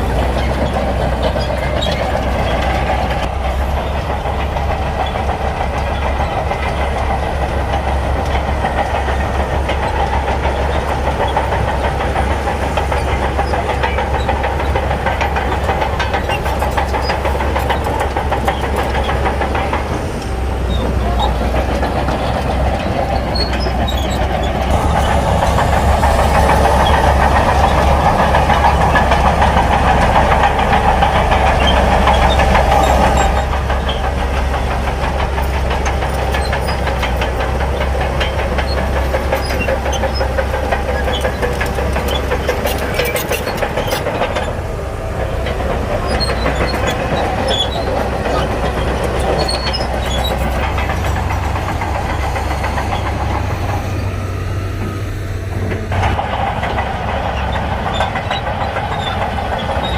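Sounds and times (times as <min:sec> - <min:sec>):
diesel earthmoving machinery running: 0:00.0 - 0:59.9.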